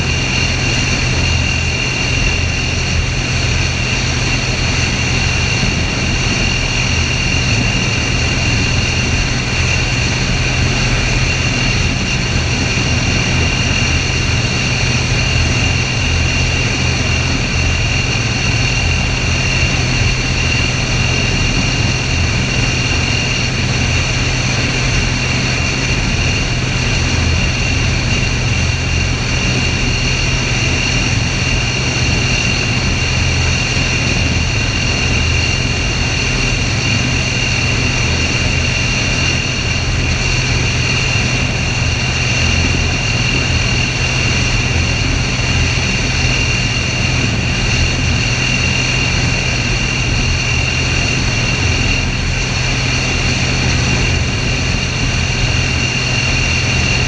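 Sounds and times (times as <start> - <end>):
helicopter rotors and engines: 0.0 - 57.0.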